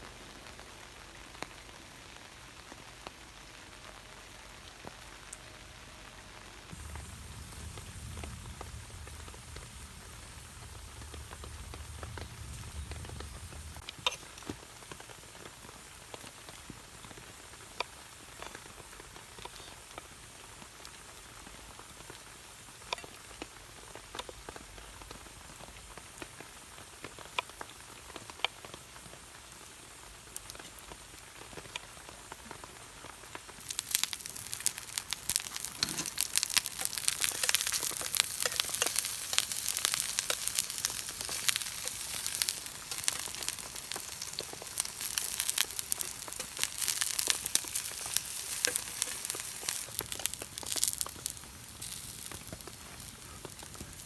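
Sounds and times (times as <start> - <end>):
food sizzling in a hot pan: 0.2 - 54.0
faint drips and ticks: 6.8 - 54.0.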